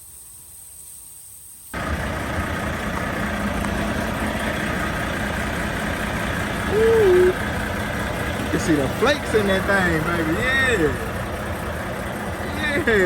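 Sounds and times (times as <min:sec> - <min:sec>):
truck diesel engine idling: 0:01.8 - 0:13.0.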